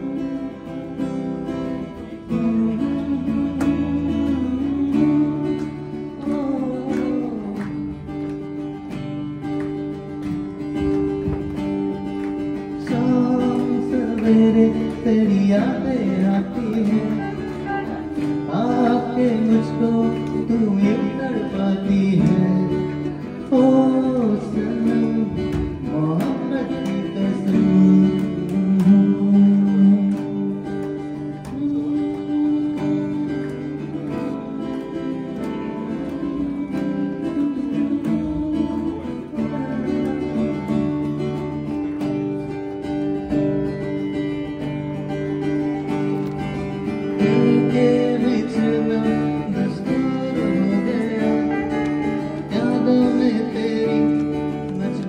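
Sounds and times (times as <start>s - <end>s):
person singing: 0.0s - 8.5s, 12.5s - 42.0s, 46.1s - 55.0s
acoustic guitar chords: 0.0s - 55.0s.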